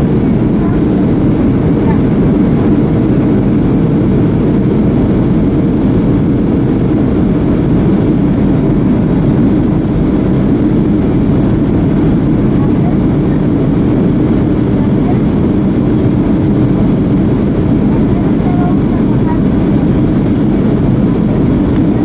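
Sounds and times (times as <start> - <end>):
airflow over fuselage: 0.0 - 22.0
jet engines rumbling in cabin: 0.0 - 22.0.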